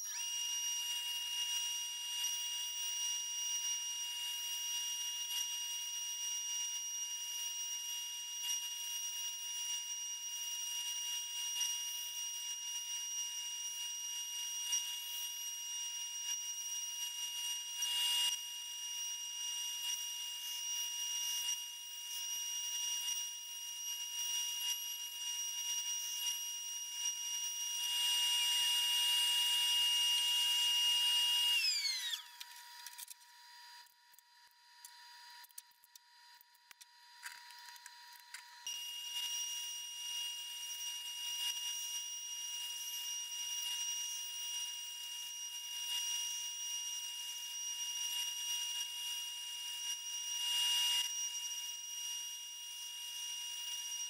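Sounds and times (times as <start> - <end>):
router spindle whining: 0.0 - 33.8, 37.2 - 54.0.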